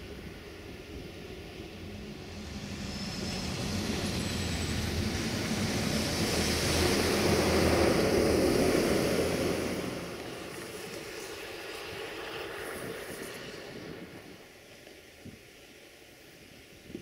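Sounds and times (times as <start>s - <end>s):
diesel train engine hum: 0.0s - 16.6s
wheels rumbling on rails: 0.0s - 16.6s.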